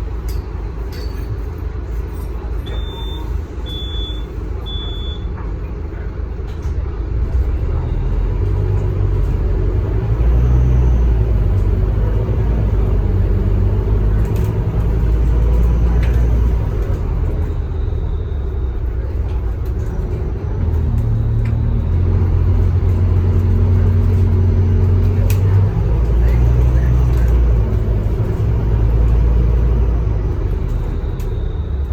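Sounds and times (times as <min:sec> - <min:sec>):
bus diesel engine rumbling: 0:00.0 - 0:31.9.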